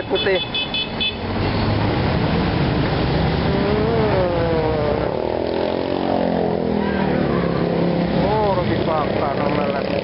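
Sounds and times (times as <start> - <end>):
motorcycle engines passing: 0.0 - 10.0.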